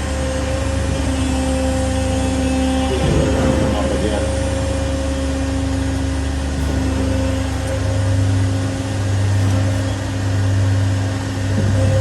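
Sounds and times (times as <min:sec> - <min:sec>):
sheet-metal folding machine humming: 0:00.0 - 0:12.0.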